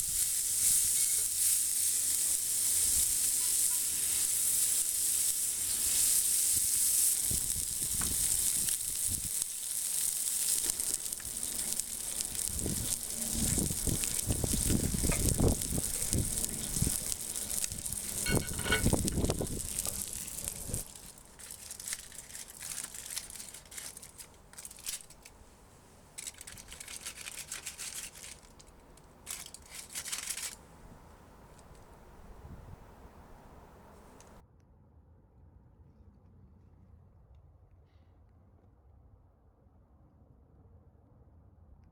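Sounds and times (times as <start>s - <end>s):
handling and scraping noises: 0.0s - 34.4s
steak sizzling on griddle: 0.0s - 34.4s.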